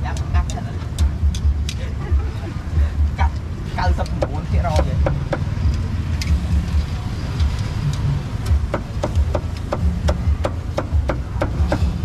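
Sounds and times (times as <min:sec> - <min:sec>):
sharp evenly spaced knocks: 0:00.0 - 0:01.8, 0:02.9 - 0:06.8, 0:07.4 - 0:12.0
street traffic rumble: 0:00.0 - 0:12.0.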